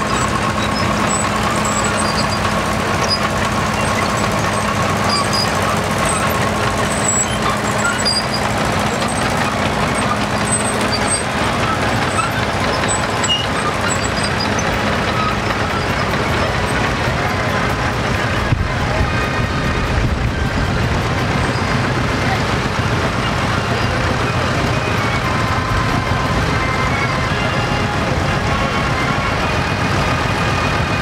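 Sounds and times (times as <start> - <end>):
crowd murmur: 0.0 - 31.0
tractor engines running: 0.0 - 31.0.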